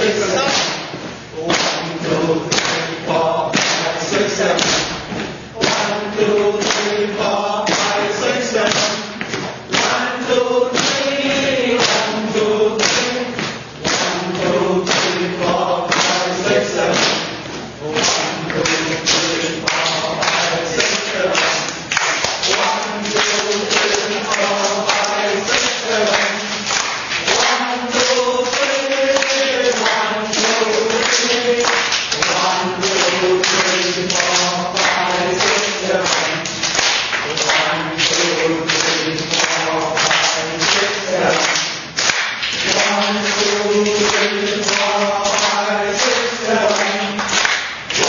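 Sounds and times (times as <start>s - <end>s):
hand claps: 0.0s - 48.0s
voices chanting in unison: 0.0s - 48.0s.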